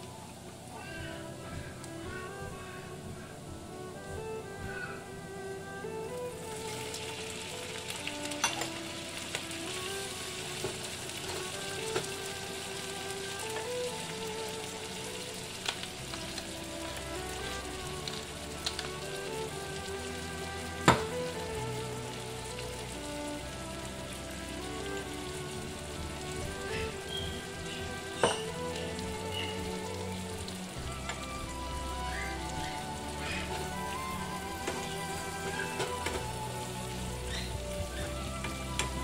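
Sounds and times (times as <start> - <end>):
background music: 0.0 - 39.0
shrimp sizzling in frying pan: 0.0 - 39.0.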